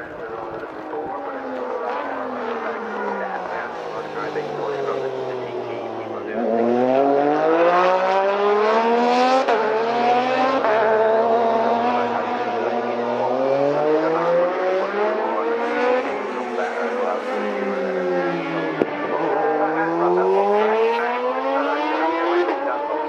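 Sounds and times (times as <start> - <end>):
racing motorcycle engines: 0.0 - 23.0.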